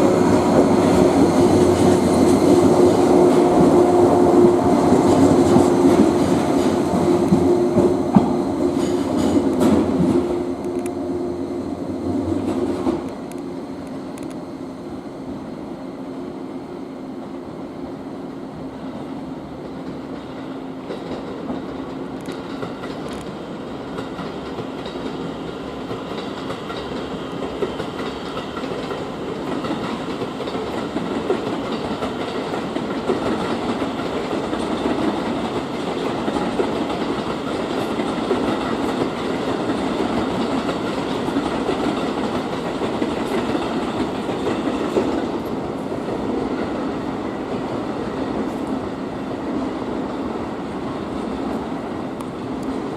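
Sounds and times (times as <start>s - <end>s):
train wheels clattering on rails: 0.0s - 11.0s, 12.0s - 14.4s, 19.6s - 52.9s.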